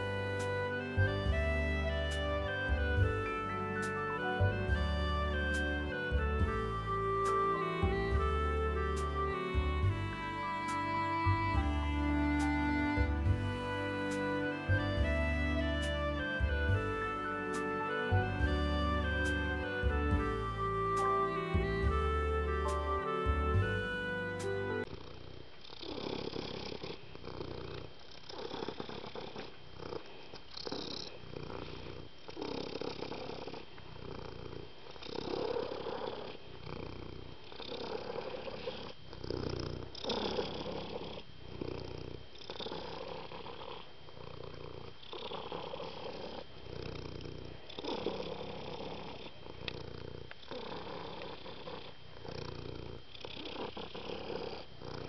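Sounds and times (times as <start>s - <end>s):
cat purring: 0.0s - 22.9s, 24.5s - 55.0s.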